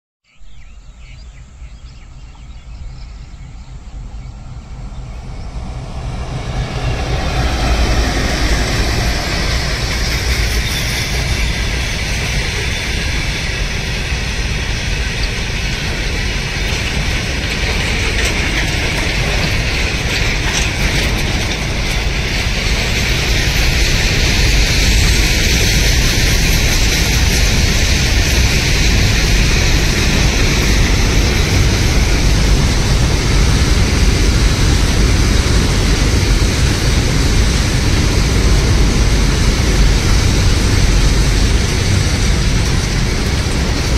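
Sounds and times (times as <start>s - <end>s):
goods train rumbling on track: 0.6s - 43.9s.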